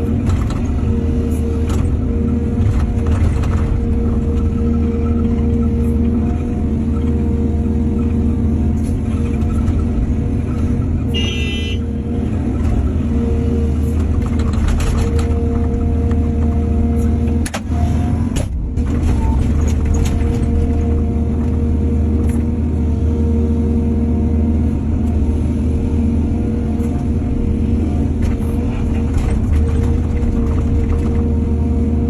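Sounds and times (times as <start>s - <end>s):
diesel machinery running: 0.0s - 32.0s.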